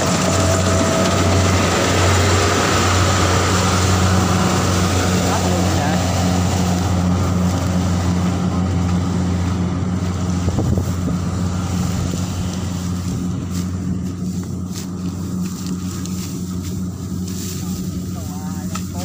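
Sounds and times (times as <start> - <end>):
combine harvester engine humming: 0.0 - 19.0.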